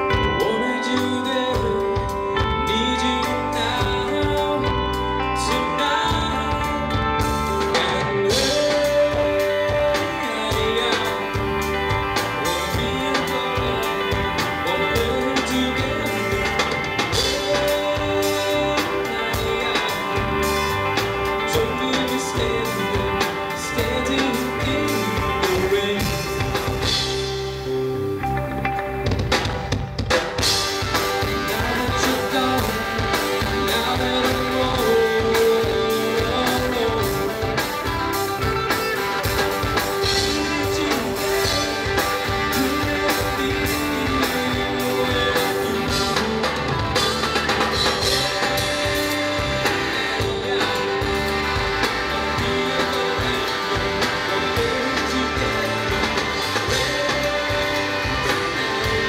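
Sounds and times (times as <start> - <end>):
drum kit beat: 0.0 - 59.0
electric guitar: 0.0 - 59.0.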